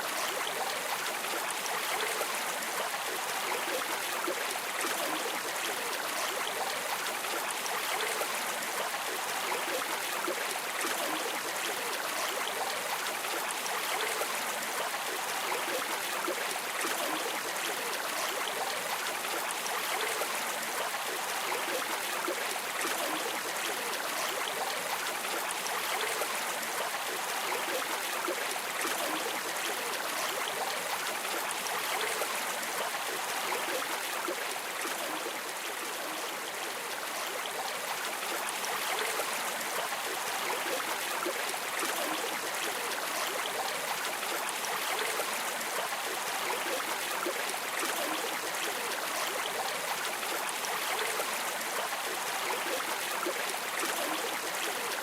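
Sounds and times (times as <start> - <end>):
stream water rushing and trickling: 0.0 - 55.0.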